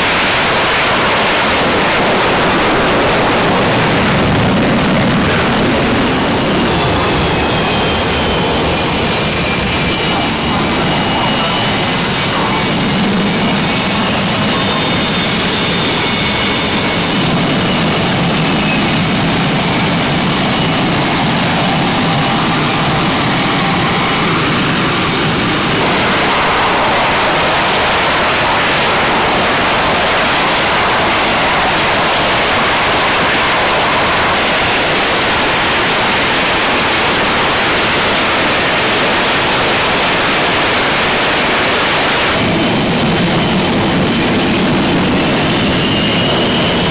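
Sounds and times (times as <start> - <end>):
high jet whine: 0.0 - 46.9
jet engines roaring: 0.0 - 46.9.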